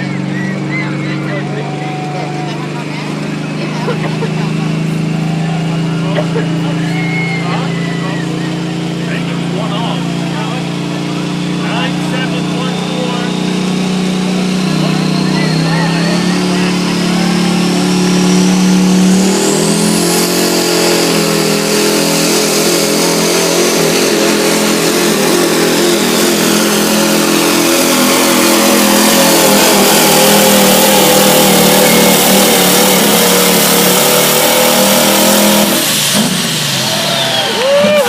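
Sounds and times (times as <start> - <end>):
truck engine at full throttle: 0.0 - 38.0.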